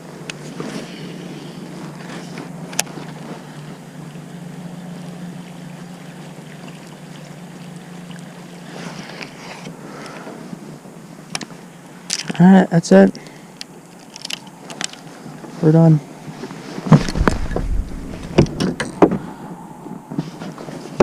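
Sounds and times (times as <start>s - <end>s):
boat motor humming: 0.0s - 12.1s, 13.4s - 21.0s.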